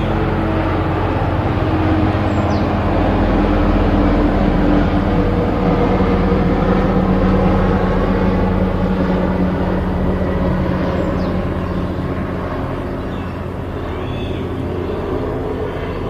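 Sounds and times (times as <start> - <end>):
helicopter engine drone: 0.0 - 16.0
helicopter rotor chop: 0.0 - 16.0.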